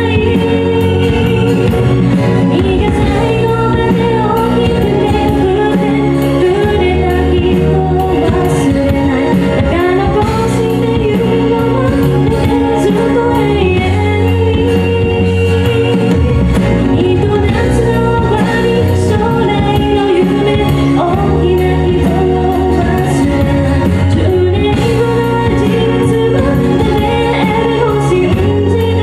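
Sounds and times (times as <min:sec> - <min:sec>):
band accompaniment: 0:00.0 - 0:29.0
sustained bass notes: 0:00.0 - 0:29.0
woman singing into a microphone: 0:00.0 - 0:29.0.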